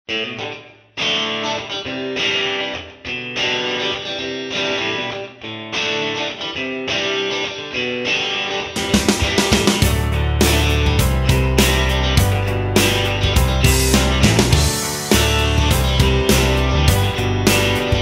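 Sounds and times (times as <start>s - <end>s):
strummed guitar chords: 0.1s - 18.0s.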